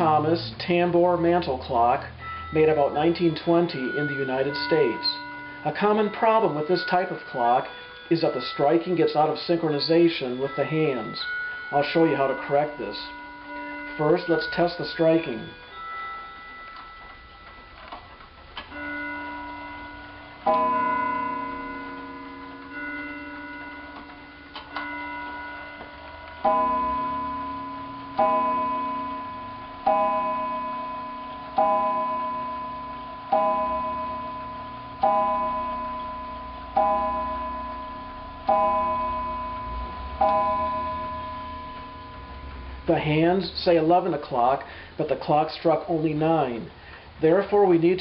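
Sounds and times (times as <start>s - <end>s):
clock gong striking: 0.0s - 43.4s.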